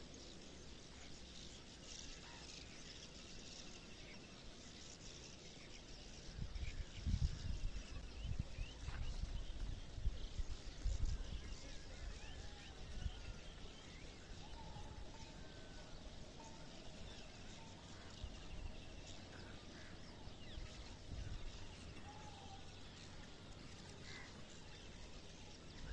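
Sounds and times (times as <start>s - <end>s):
birds chirping and trilling: 0.0s - 25.9s
steady background hiss: 0.0s - 25.9s.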